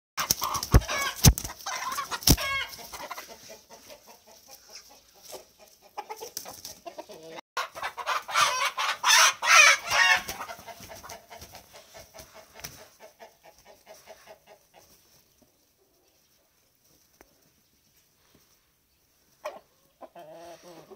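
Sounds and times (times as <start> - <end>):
chickens clucking and squawking: 0.2 - 20.9.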